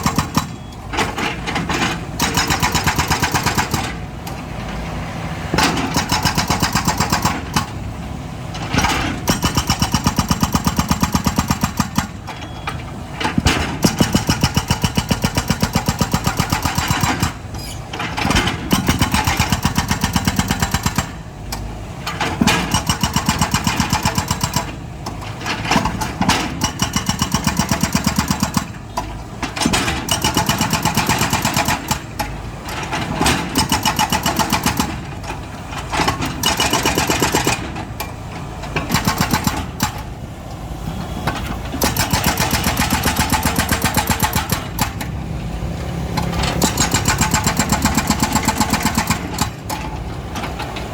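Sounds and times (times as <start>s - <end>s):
excavator diesel engine pulsing: 0.0s - 50.9s.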